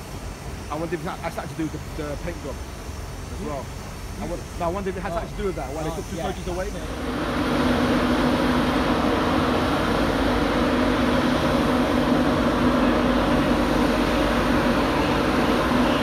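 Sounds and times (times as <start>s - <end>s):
locomotive fans humming: 0.0s - 16.0s.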